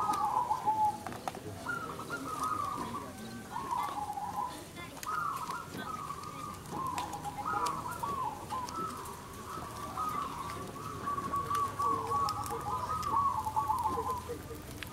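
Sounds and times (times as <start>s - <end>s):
doves cooing: 0.0s - 14.9s.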